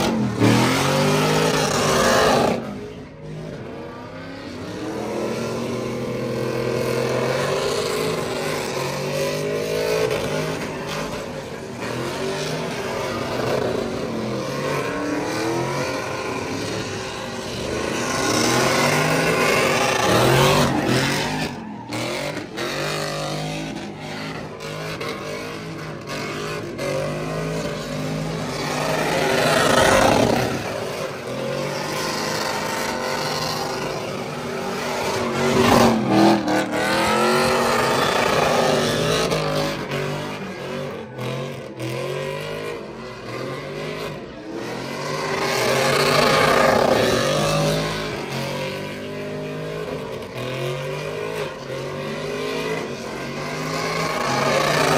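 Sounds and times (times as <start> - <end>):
truck engine accelerating: 0.0 - 54.9.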